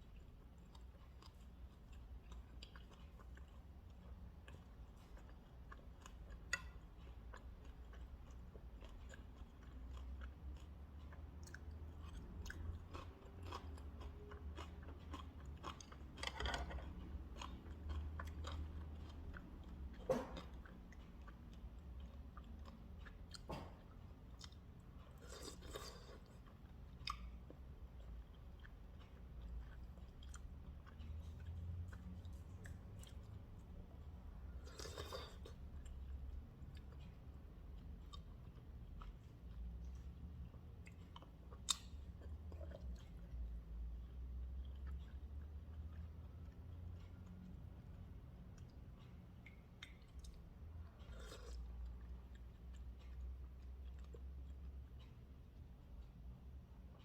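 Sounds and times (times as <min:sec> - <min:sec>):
faint low hum: 0:00.0 - 0:57.0
person chewing food: 0:00.0 - 0:57.0.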